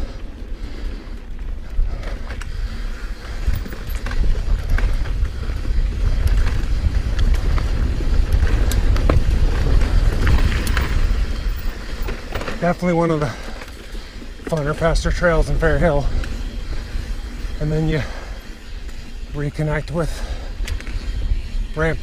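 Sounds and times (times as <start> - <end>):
bike clicks and rattles: 0.0 - 22.0
wind rushing over microphone: 0.0 - 22.0
tyres rolling over dry leaves: 1.9 - 22.0.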